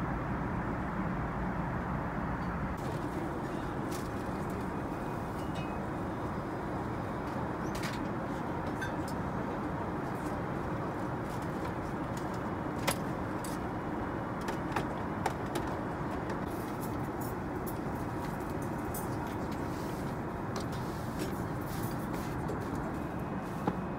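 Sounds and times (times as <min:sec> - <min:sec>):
airplane cabin noise: 0:00.0 - 0:23.9.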